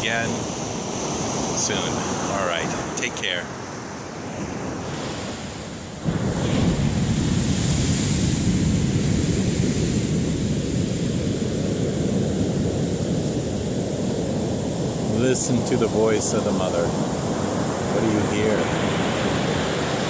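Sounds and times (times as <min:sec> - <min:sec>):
ocean surf rushing: 0:00.0 - 0:20.0
wind buffeting microphone: 0:00.0 - 0:20.0.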